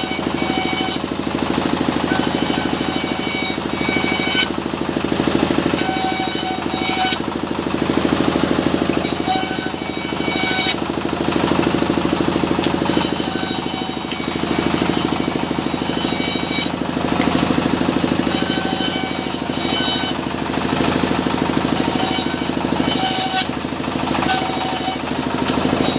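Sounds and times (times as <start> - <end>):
sawmill engine droning: 0.0 - 25.9.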